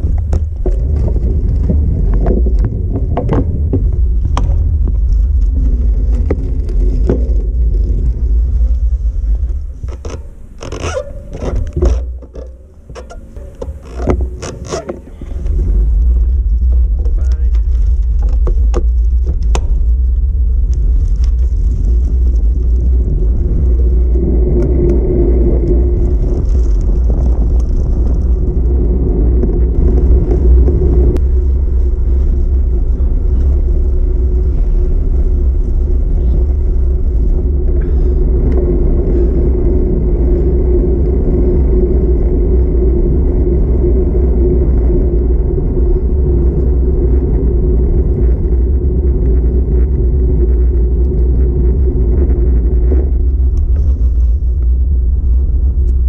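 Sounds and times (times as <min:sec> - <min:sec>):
tyres humming on road: 0:00.0 - 0:56.0
wind rushing on microphone: 0:00.0 - 0:56.0.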